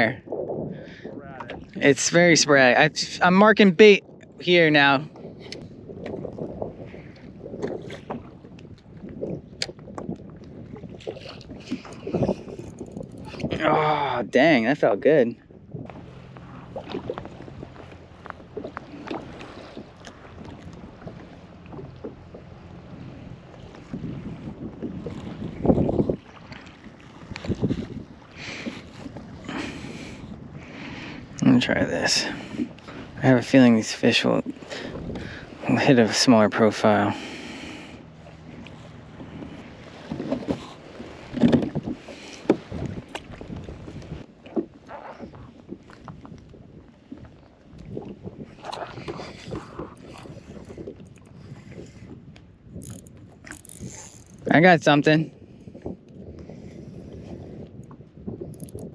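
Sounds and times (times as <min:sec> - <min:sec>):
water lapping against kayak hull: 0:00.0 - 0:58.9
wind on microphone: 0:00.0 - 0:58.9.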